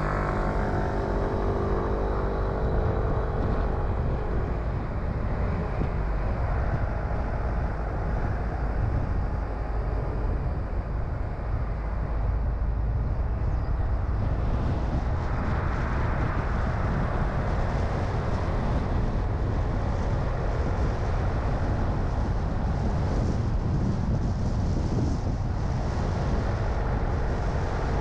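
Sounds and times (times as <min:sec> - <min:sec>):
car driving on a road: 0:00.0 - 0:28.0.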